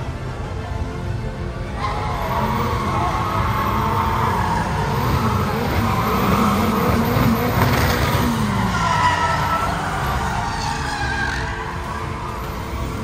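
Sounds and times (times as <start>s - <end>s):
car engines revving: 0.0s - 13.0s
tyres squealing: 1.7s - 13.0s.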